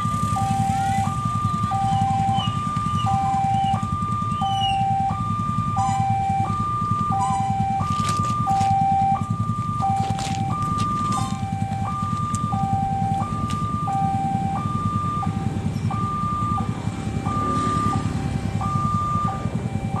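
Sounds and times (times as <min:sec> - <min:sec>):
low engine rumble: 0:00.0 - 0:20.0
two-tone warning siren: 0:00.0 - 0:20.0.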